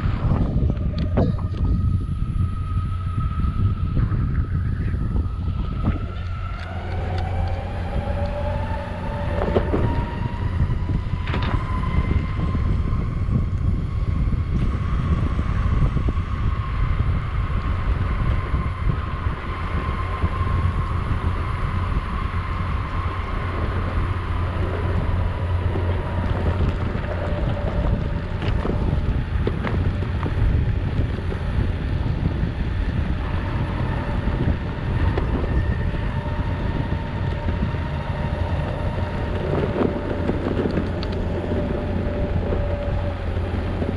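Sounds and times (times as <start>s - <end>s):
electric motor whining: 0.0s - 43.9s
wind on microphone: 0.0s - 43.9s
wheels rolling on concrete: 4.3s - 43.9s.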